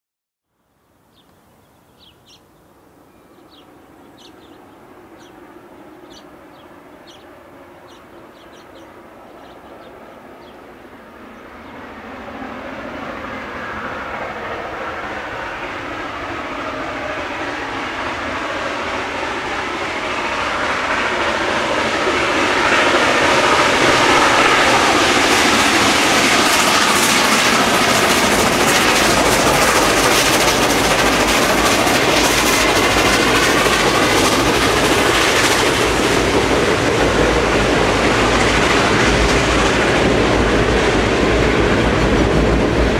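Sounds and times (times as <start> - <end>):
steam locomotive approaching: 2.0 - 42.9.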